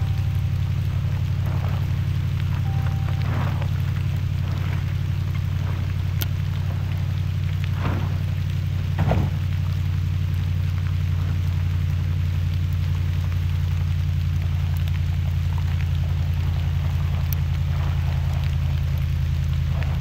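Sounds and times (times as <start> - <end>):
faint ticks: 0.0 - 20.0
vehicle engine and road drone: 0.0 - 20.0.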